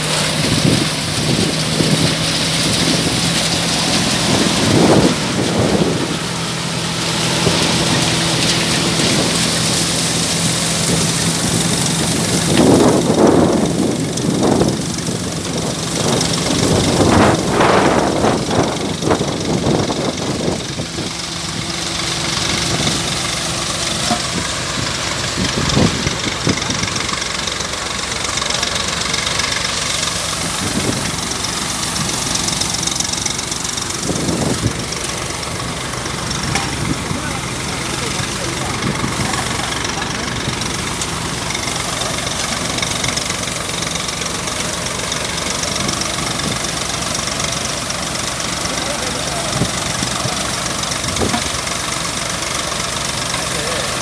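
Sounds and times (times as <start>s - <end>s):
engine hum: 0.0s - 54.0s
rushing of crop being threshed: 0.0s - 54.0s.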